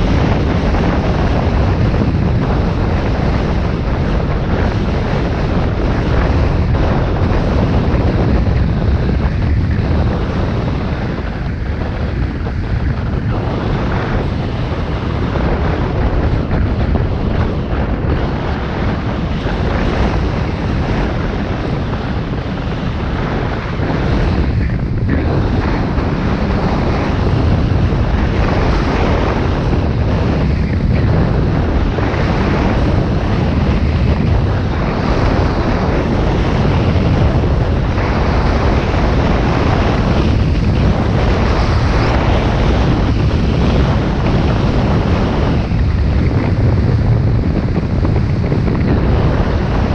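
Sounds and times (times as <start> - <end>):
wind on microphone: 0.0 - 49.9.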